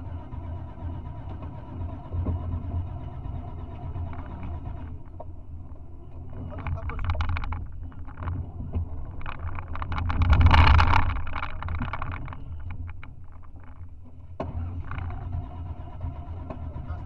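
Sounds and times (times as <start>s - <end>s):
car engine running: 0.0s - 17.0s
car clattering over rough ground: 0.7s - 17.0s.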